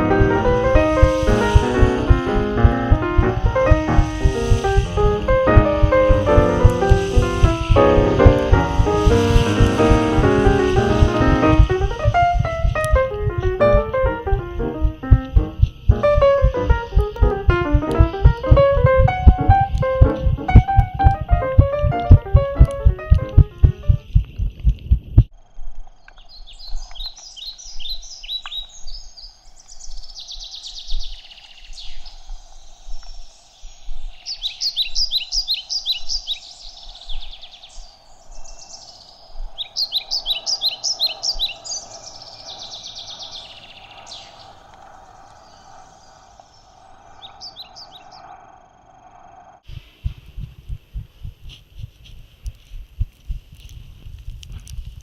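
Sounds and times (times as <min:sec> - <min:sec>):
songbird chirping: 0:00.0 - 0:24.6, 0:25.3 - 0:49.7.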